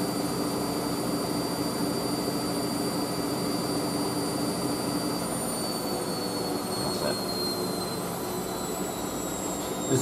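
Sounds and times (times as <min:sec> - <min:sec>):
washing machine motor whine: 0:00.0 - 0:10.0.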